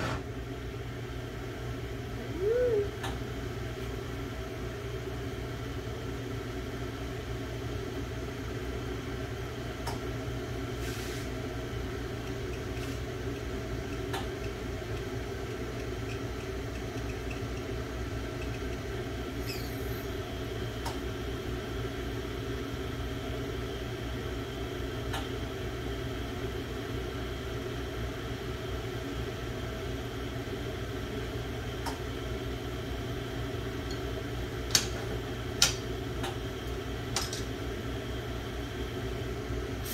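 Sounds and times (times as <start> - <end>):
mechanical hum of torch: 0.0 - 39.9.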